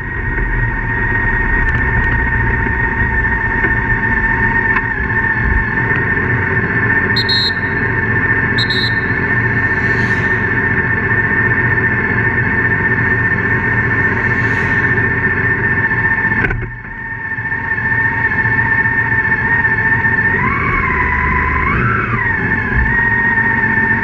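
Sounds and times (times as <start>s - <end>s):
motorcycle engine running: 0.0s - 24.0s
steady high whine: 0.0s - 24.0s.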